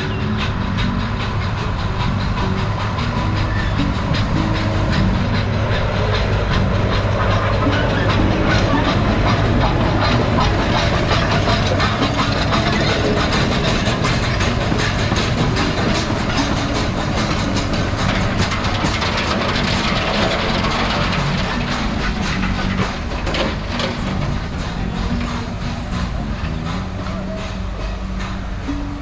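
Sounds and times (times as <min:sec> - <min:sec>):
steam hissing: 0:00.0 - 0:29.0
steam locomotive passing: 0:00.0 - 0:29.0
wheels clicking on track: 0:00.0 - 0:29.0.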